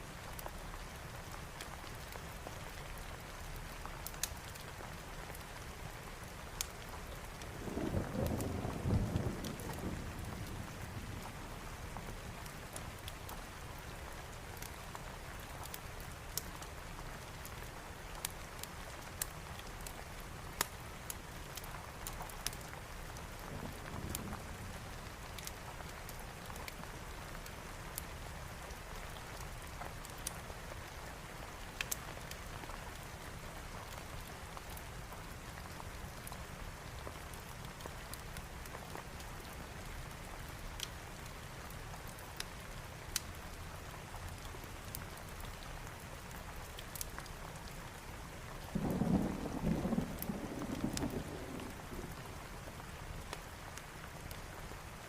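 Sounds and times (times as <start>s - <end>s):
steady rain: 0.0s - 55.0s
wood fire crackling: 0.2s - 8.5s, 9.2s - 55.0s.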